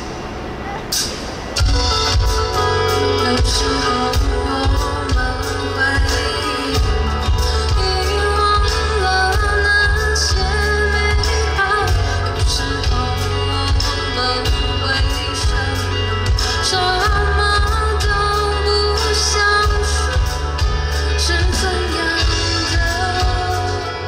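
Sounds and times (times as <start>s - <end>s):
heavy bass: 0.0s - 24.0s
person singing: 2.5s - 24.0s.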